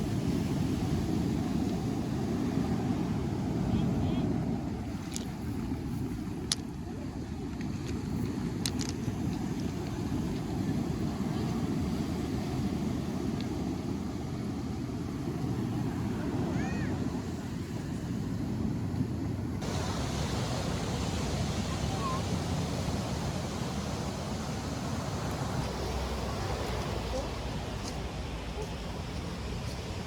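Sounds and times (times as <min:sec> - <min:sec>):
ocean surf on shore: 0:00.0 - 0:30.0
wind on microphone: 0:00.0 - 0:30.0.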